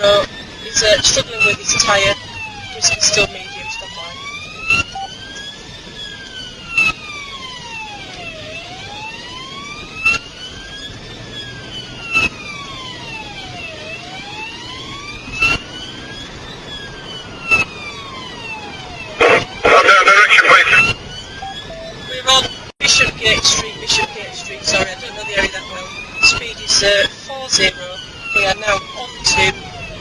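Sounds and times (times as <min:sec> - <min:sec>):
police siren wailing: 0:00.0 - 0:30.0
road noise inside car: 0:00.0 - 0:30.0.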